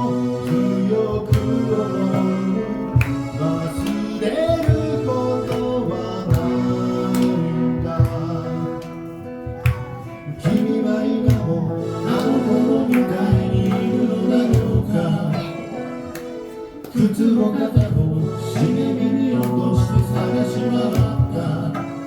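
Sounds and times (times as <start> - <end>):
live band playing: 0.0 - 22.0
person singing: 0.0 - 22.0.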